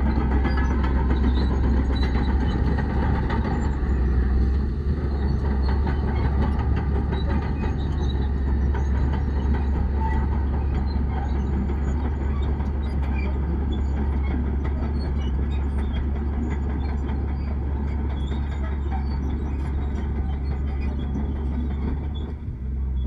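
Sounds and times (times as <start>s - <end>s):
diesel machinery engine rumble: 0.0s - 23.0s.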